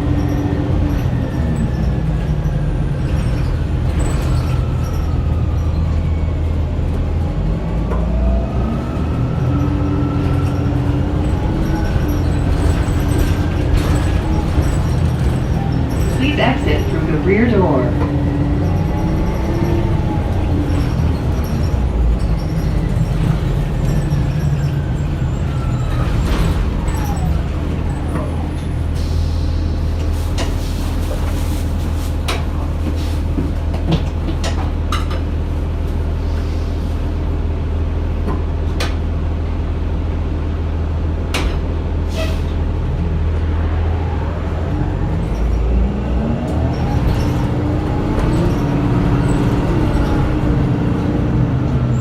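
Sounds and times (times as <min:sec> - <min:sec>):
bus electric drive whine: 0:00.0 - 0:52.0.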